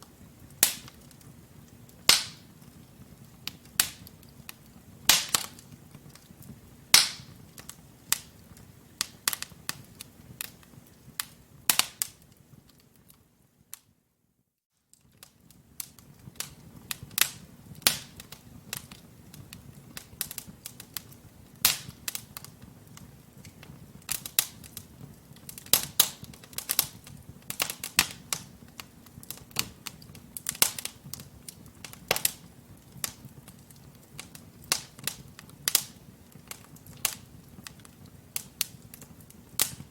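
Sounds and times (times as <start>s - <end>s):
low rumble of flames: 0.0s - 13.7s, 15.0s - 39.9s
wood fire crackling and popping: 0.0s - 13.9s, 14.8s - 39.9s.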